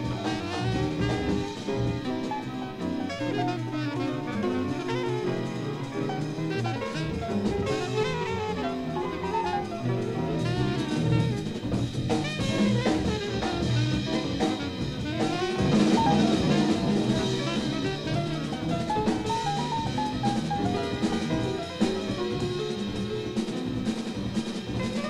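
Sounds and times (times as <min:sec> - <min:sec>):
bass: 0:00.0 - 0:25.0
drum kit: 0:00.0 - 0:25.0
horn playing fast melody: 0:00.0 - 0:25.0.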